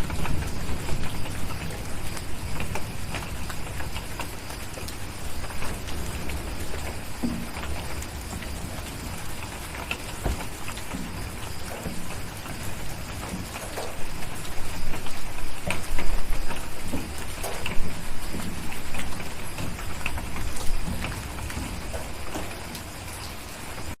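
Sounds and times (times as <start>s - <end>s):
low thunder rumble: 0.0s - 23.1s
steady rain: 0.0s - 24.0s.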